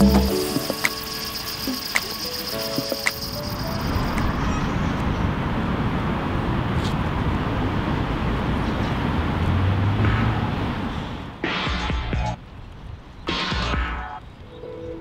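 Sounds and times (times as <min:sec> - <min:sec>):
road traffic rushing: 0:00.0 - 0:14.4.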